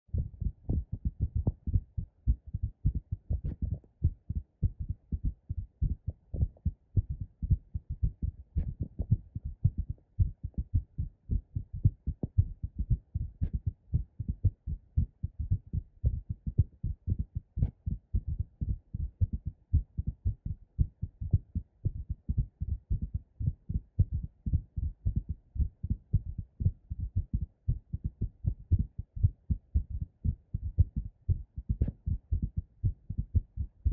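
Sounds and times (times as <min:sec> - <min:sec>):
heartbeat thumps: 0:00.1 - 0:33.9.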